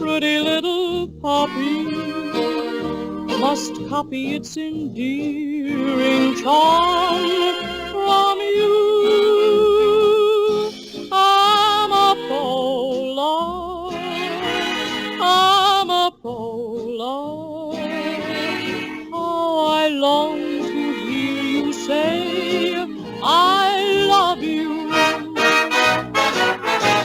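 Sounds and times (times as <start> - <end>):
sentimental love song: 0.0 - 27.0.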